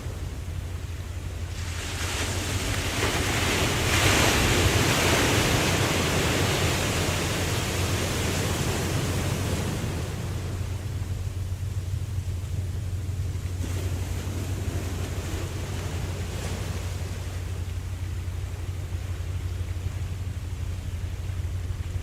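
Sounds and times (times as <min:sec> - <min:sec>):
ocean wave surging: 0:00.0 - 0:22.0.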